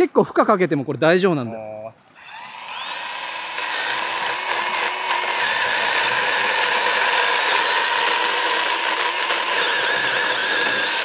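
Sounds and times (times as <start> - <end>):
mini chainsaw cutting wood: 2.2 - 11.0.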